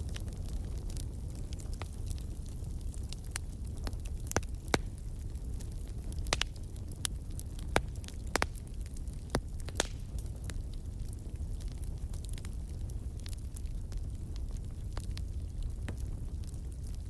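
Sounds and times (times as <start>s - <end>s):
fire rumbling in a fireplace: 0.0s - 17.0s
logs crackling and popping: 0.0s - 17.0s.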